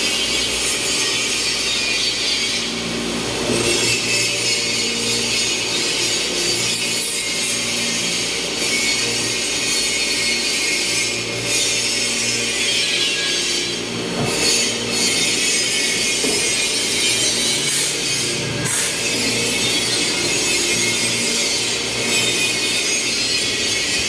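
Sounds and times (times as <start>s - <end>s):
milling machine cutting metal: 0.0s - 24.0s.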